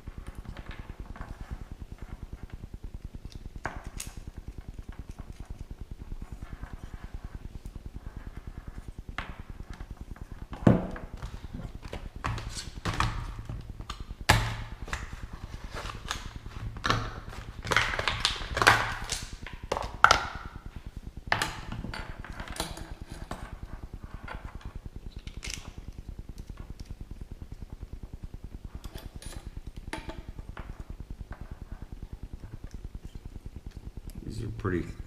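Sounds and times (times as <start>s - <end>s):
low pulsing hum: 0.0s - 35.0s.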